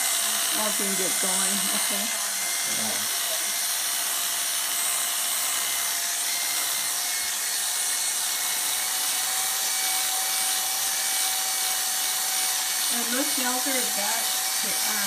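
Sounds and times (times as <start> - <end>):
electric clippers whining: 0.0 - 15.0.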